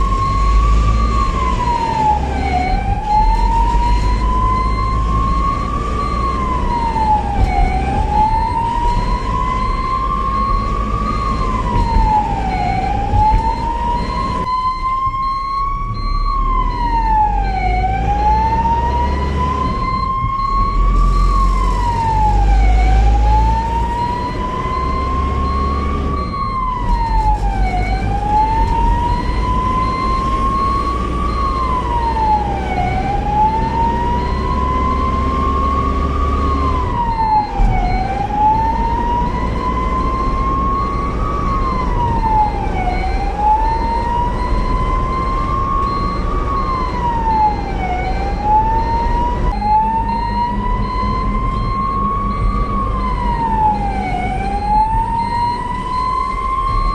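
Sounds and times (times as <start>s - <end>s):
ambulance siren wailing: 0.0s - 56.9s
low vehicle rumble: 0.0s - 56.9s.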